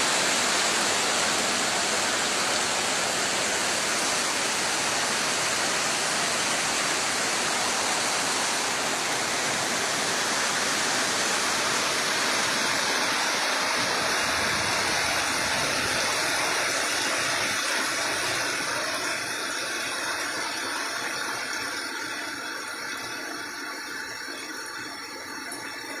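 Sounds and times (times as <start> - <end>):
heavy rain pouring: 0.0 - 22.3.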